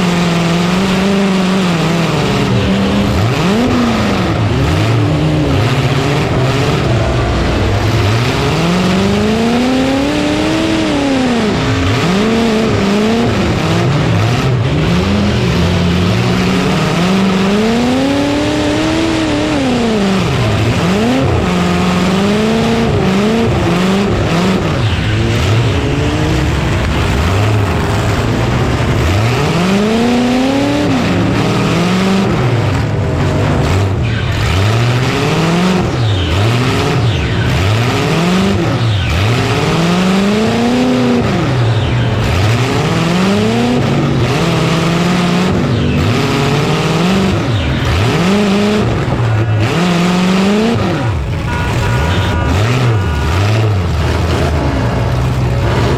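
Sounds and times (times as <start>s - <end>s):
truck engines revving: 0.0s - 55.9s.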